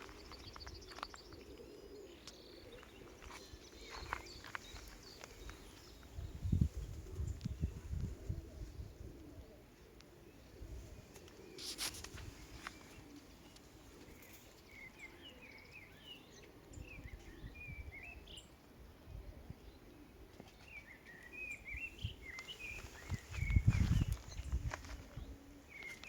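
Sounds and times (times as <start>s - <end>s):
small birds chirping: 0.0s - 18.6s, 20.4s - 26.0s.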